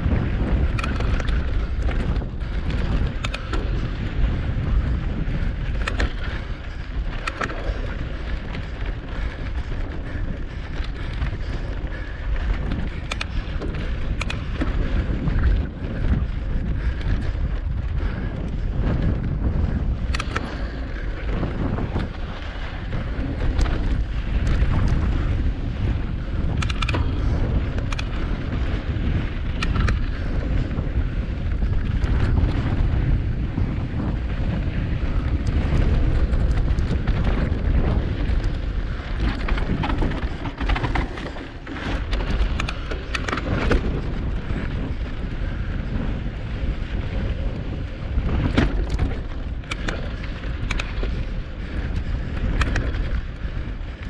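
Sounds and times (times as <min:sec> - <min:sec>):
bike clicks and rattles: 0:00.0 - 0:54.0
wind buffeting microphone: 0:00.0 - 0:54.0.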